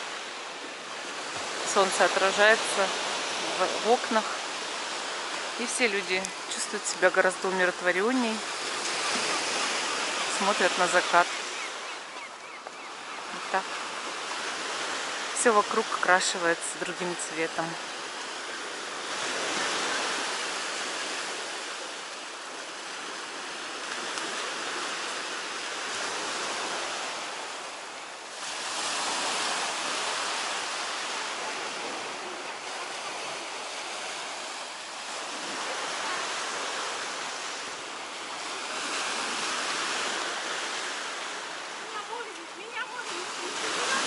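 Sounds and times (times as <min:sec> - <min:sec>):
waves washing onto shore: 0:00.0 - 0:44.0.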